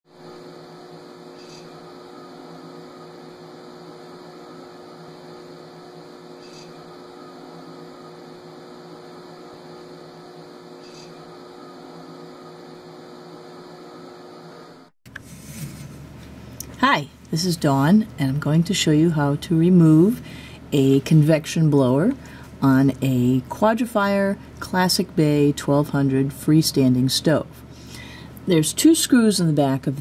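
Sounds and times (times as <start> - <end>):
pellet stove fan hum: 0.1 - 30.0.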